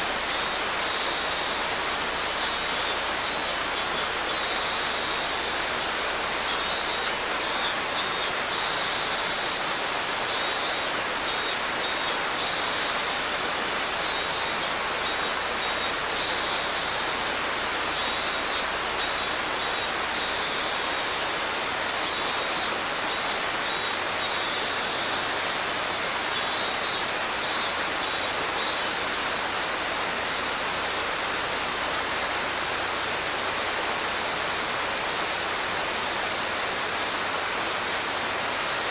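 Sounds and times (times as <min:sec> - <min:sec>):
cicada singing: 0:00.0 - 0:38.9
stream rushing over rocks: 0:00.0 - 0:38.9.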